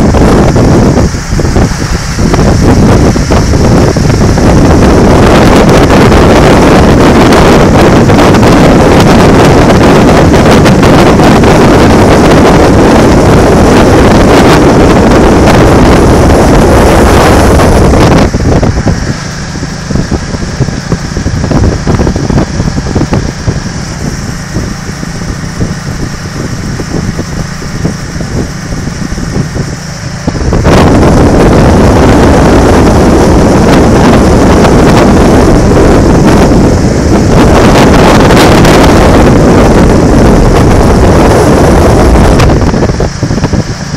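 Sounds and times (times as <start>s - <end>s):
heavy wind across microphone: 0.0s - 43.9s
road and engine rumble: 0.0s - 43.9s.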